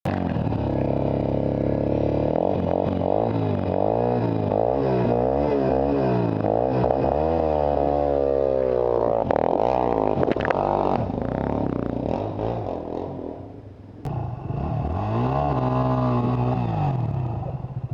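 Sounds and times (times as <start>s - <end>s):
dirt bike engine revving: 0.1s - 17.9s.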